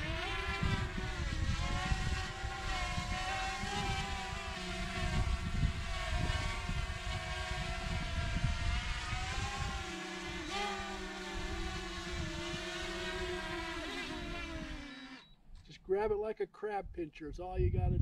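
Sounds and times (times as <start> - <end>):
drone propellers whining: 0.0 - 15.4.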